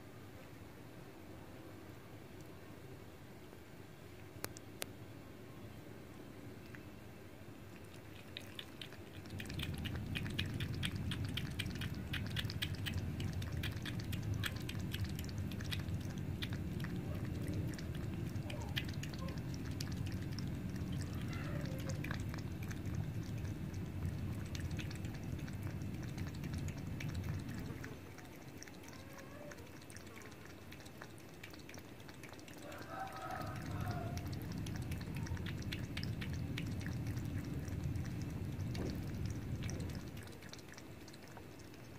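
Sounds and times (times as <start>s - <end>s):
low background rumble: 4.2s - 41.9s
cat lapping water: 6.6s - 41.9s.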